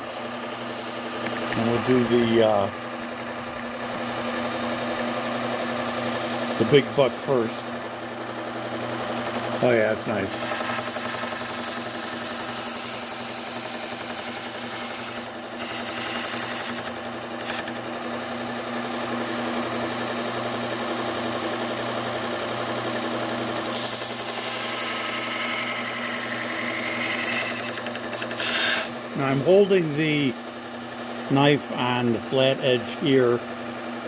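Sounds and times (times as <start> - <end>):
belt sander motor hum: 0.2 - 29.7.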